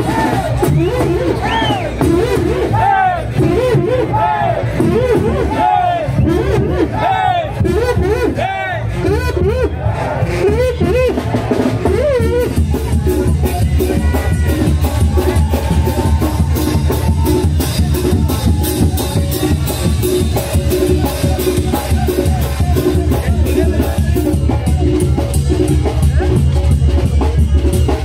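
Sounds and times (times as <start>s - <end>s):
crowd shouting: 0.0s - 26.2s
brass band playing: 0.0s - 27.4s.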